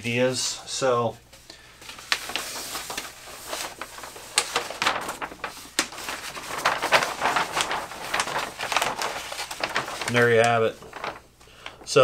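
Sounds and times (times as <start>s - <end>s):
paper sheets rustling and crackling: 0.0s - 12.0s.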